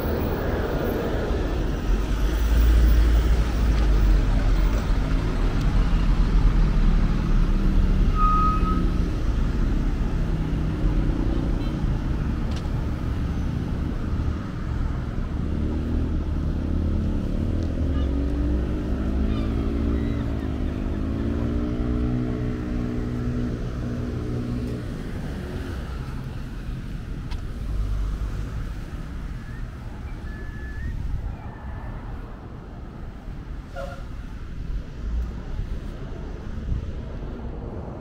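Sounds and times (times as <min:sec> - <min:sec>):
low traffic rumble: 0:00.0 - 0:38.0.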